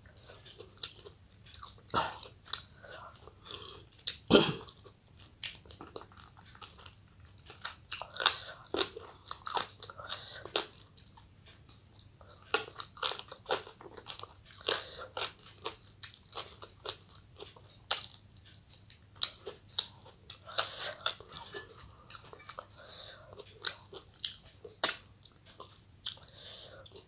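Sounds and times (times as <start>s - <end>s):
person chewing and crunching: 0.1s - 27.0s.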